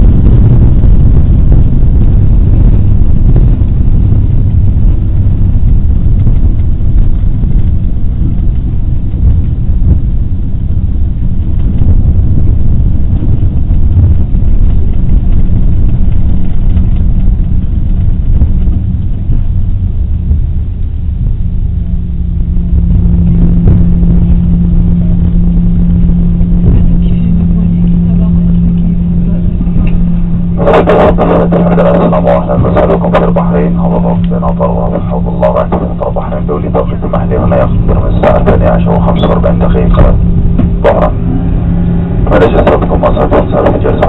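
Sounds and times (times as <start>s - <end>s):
airliner engines and wheels roaring: 0.0s - 44.0s.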